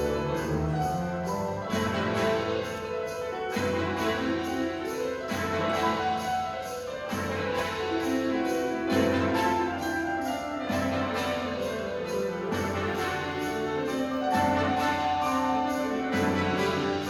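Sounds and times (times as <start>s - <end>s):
piano: 0.0s - 17.0s
symphony orchestra playing: 0.0s - 17.0s.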